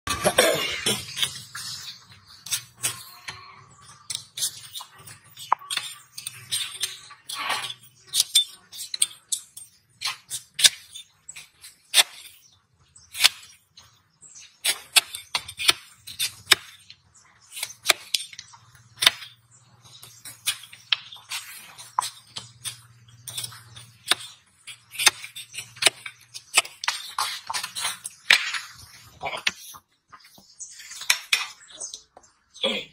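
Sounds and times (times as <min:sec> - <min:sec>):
hoof knife scraping hoof: 0:00.1 - 0:32.0.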